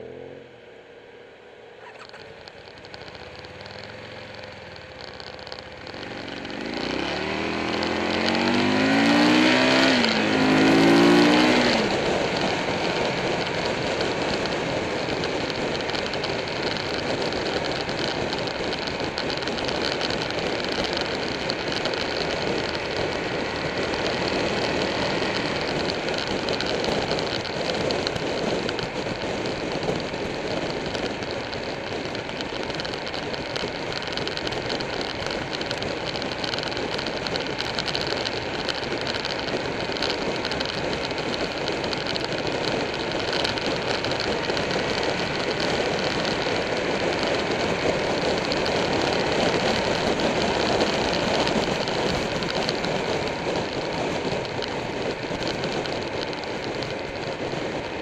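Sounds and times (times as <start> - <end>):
motorcycle engine cruising: 0.0 - 58.0
road noise: 0.0 - 58.0.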